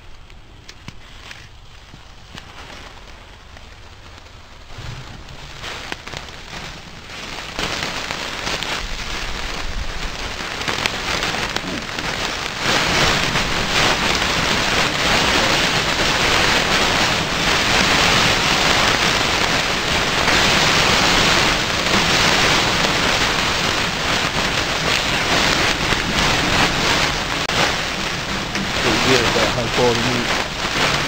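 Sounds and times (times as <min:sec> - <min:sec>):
burgers sizzling on a grill: 0:00.0 - 0:31.0.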